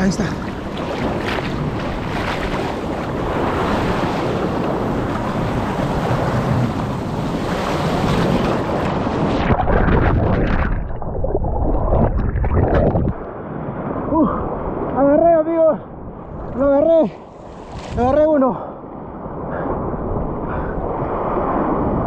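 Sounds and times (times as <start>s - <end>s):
wind on microphone: 0.0s - 14.9s, 19.1s - 22.0s
surf washing over rocks: 0.0s - 18.6s.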